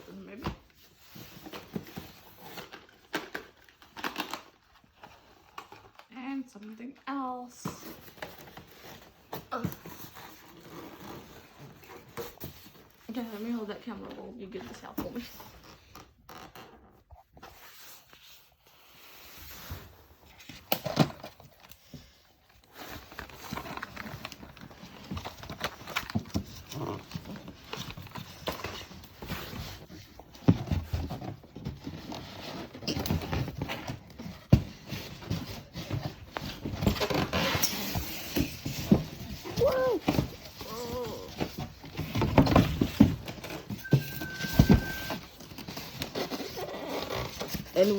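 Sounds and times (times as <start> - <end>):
unpacking scraping and rustling: 0.0 - 7.0, 7.6 - 47.9.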